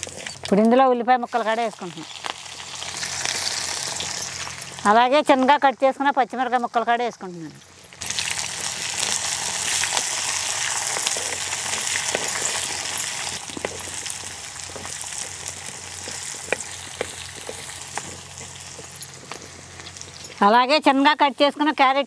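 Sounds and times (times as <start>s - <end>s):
onions sizzling in hot oil: 1.2s - 20.4s.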